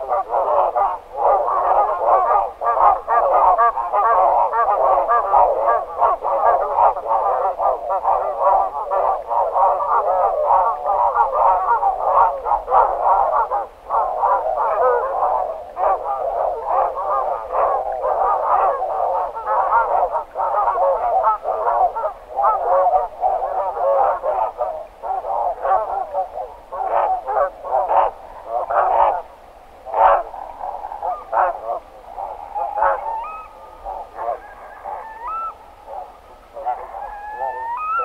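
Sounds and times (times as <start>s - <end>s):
geese calling: 0.0s - 29.3s, 29.9s - 38.0s.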